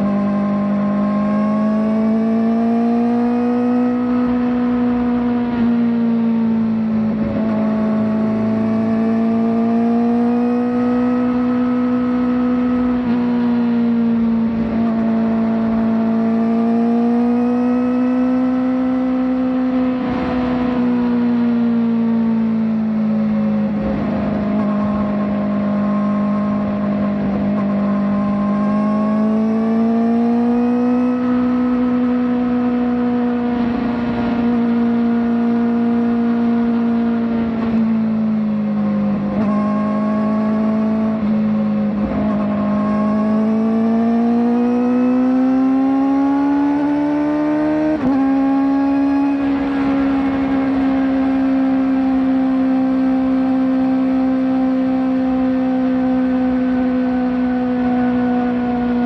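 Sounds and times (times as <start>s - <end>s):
motorcycle engine at mid revs: 0.0s - 59.0s.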